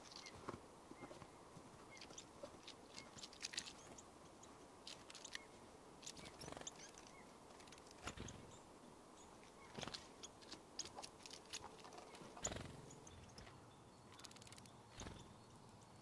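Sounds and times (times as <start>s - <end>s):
birds pecking seeds: 0.0s - 16.0s.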